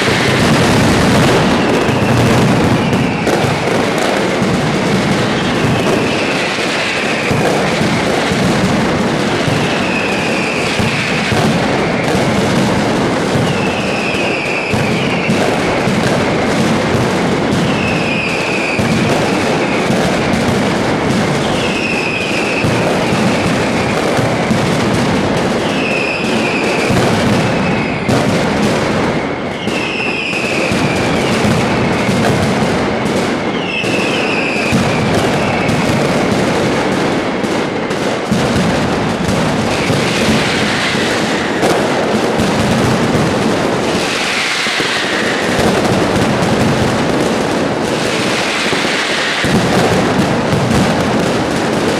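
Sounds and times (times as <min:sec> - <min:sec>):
falling firework whistle: 0:00.0 - 0:51.9
firecracker rattle: 0:00.0 - 0:51.9.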